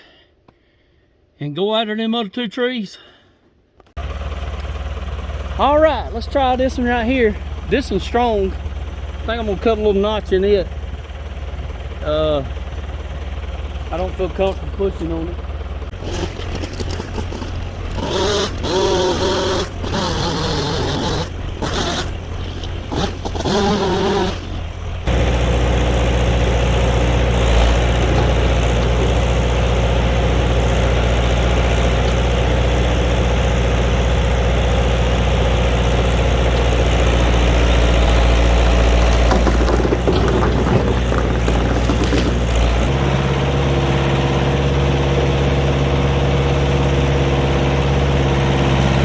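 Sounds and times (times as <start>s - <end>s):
engine at high throttle: 4.0s - 49.0s
engine low rumble: 4.0s - 49.0s.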